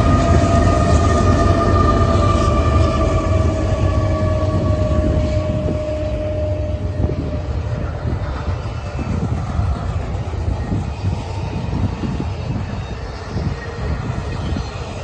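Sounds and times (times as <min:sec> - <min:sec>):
freight train rumble and wheel clatter: 0:00.0 - 0:15.0
wind buffeting microphone: 0:00.0 - 0:15.0.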